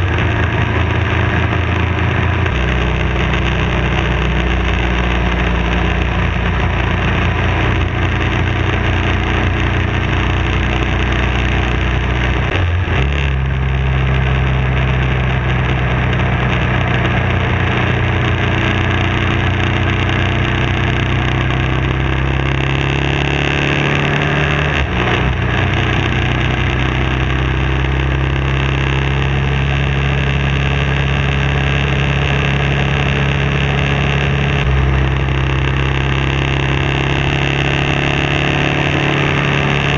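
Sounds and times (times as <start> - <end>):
motorcycle engine running: 0.0 - 39.9
road and wind rush: 0.0 - 39.9.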